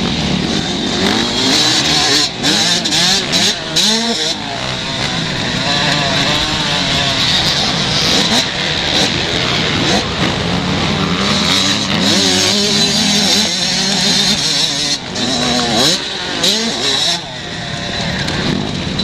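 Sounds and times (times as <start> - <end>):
motocross motorcycles revving: 0.0 - 19.0.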